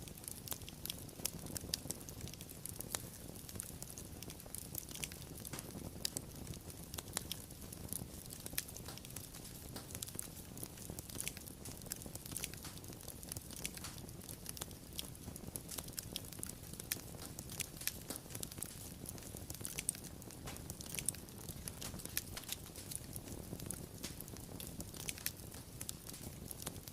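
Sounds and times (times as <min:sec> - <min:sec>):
low rumble of flames: 0:00.0 - 0:26.9
wood fire pops and snaps: 0:00.0 - 0:26.9.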